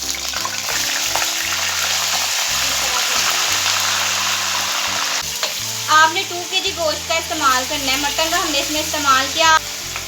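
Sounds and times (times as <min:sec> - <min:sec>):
meat sizzling in hot fat: 0:00.0 - 0:10.0.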